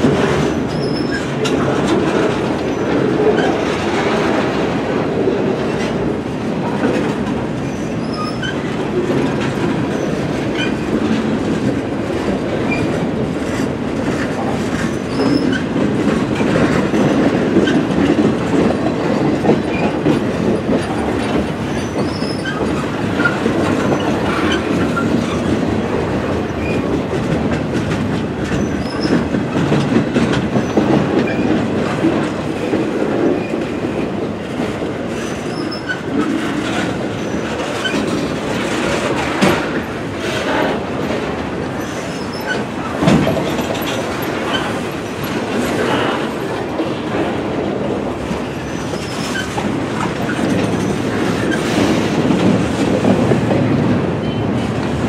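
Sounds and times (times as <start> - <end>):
clicking over rail joints: 0.0 - 55.0
train wheels rumbling on rails: 0.0 - 55.0.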